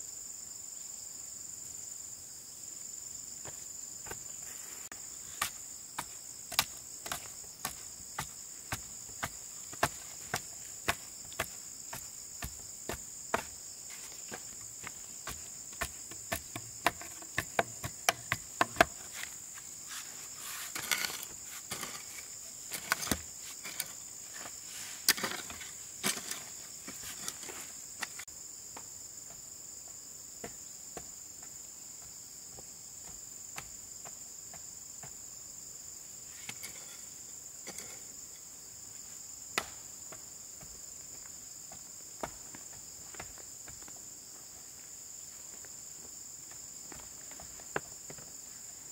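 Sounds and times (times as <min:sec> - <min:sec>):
high drone of insects: 0:00.0 - 0:48.9.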